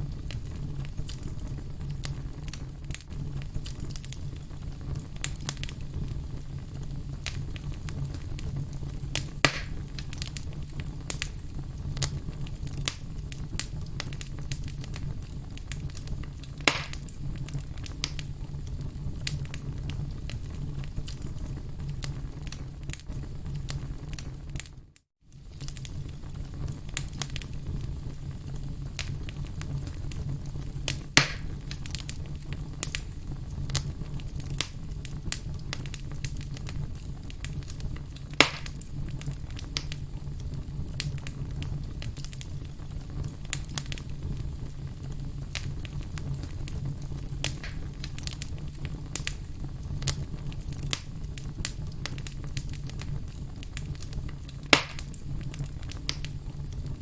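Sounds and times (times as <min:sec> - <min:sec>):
firewood crackling and popping: 0:00.0 - 0:57.0
loud fire snaps: 0:00.0 - 0:57.0
low fire rumble: 0:00.0 - 0:57.0.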